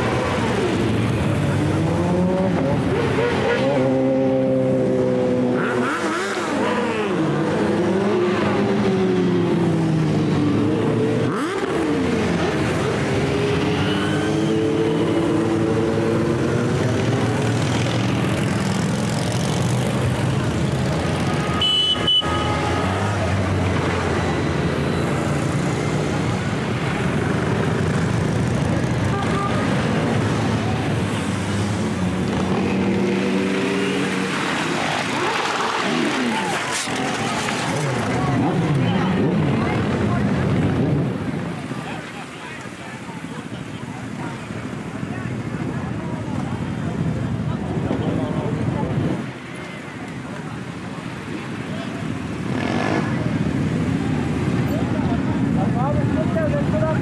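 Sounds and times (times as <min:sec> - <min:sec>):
motorcycles riding past: 0:00.0 - 0:57.0.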